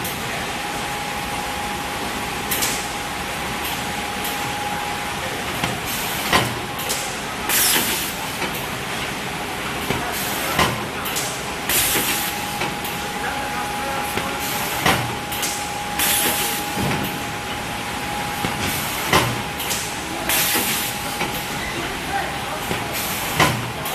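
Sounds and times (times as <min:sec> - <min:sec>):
packaging machine hum: 0:00.0 - 0:23.9.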